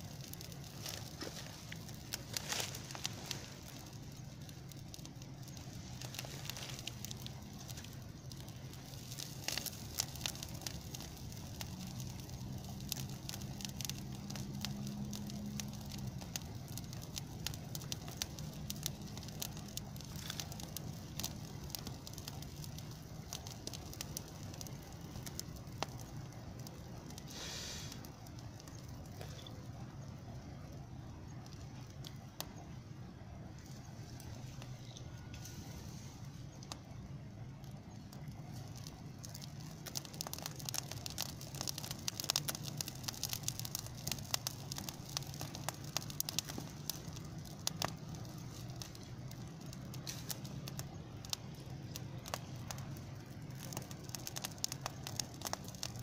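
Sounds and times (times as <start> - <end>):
bonfire crackling and popping: 0.0 - 56.0
rush of flame: 0.0 - 56.0.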